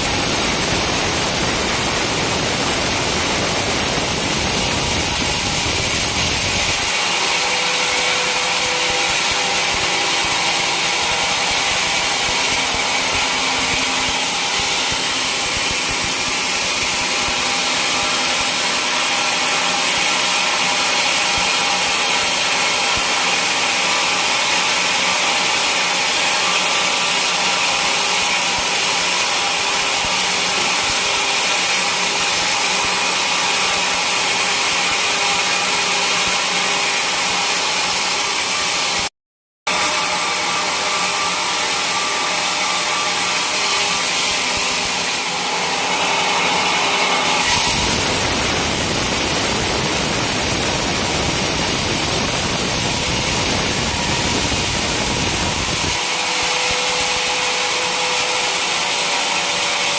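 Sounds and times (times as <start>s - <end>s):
sawmill saw cutting log: 0.0s - 39.1s, 39.7s - 59.9s.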